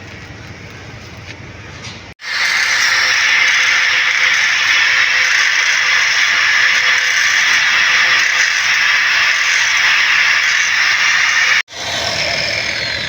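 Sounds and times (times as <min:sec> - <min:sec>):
welding arc crackling: 0:02.2 - 0:13.0.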